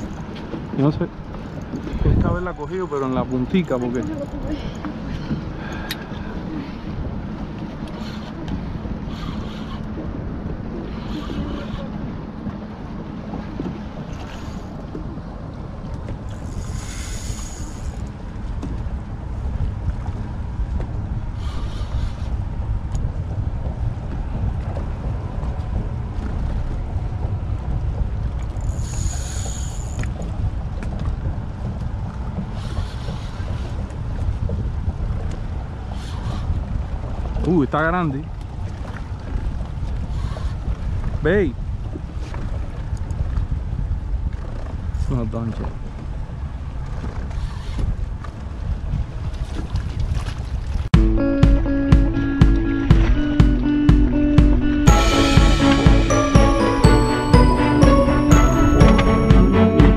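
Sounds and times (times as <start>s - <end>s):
wind buffeting microphone: 0.0s - 16.8s, 18.0s - 28.7s, 30.0s - 51.0s
water slapping boat hull: 0.0s - 54.6s.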